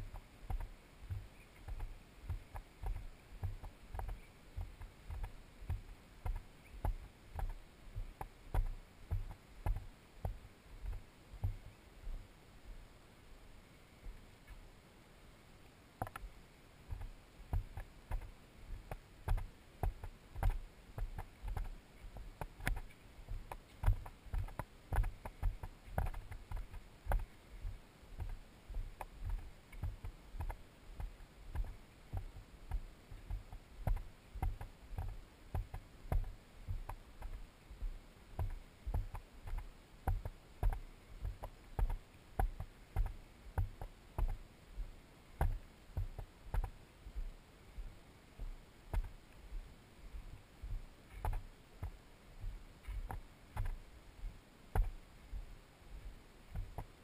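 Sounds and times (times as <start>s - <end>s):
footsteps on dirt trail: 0.0s - 12.2s, 16.9s - 57.0s.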